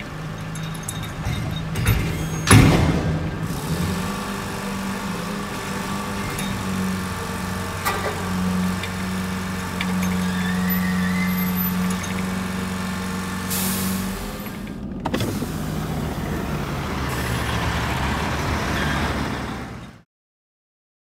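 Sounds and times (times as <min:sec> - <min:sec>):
diesel engine idling: 0:00.0 - 0:19.8
rough heavy diesel engine running: 0:00.0 - 0:20.0.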